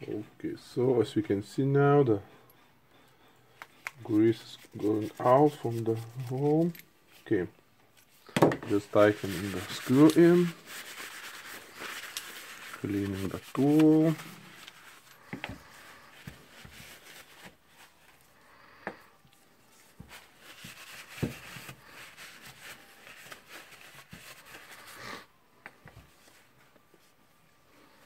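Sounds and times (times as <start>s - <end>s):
soft rubbing of cloth: 3.7s - 28.0s.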